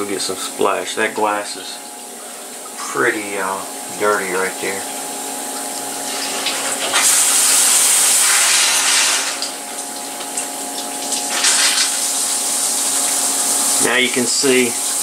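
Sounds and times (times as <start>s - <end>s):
coolant spray hissing on glass: 0.0s - 15.0s
machine hum: 0.0s - 15.0s.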